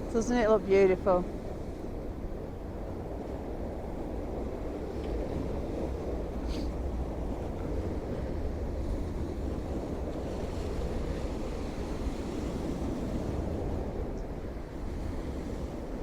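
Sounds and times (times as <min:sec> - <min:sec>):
waves breaking on shore: 0:00.0 - 0:16.0
wind rumble on microphone: 0:00.0 - 0:16.0.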